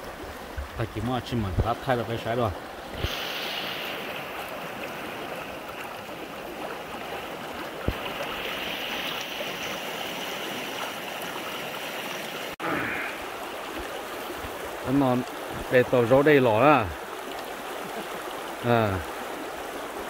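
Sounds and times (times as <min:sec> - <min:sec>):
creek water rushing over rocks: 0:00.0 - 0:20.0.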